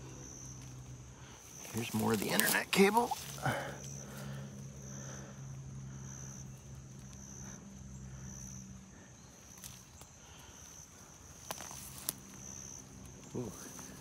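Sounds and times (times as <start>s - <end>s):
insect buzzing: 0.0s - 14.0s
low steady hum: 0.0s - 14.0s.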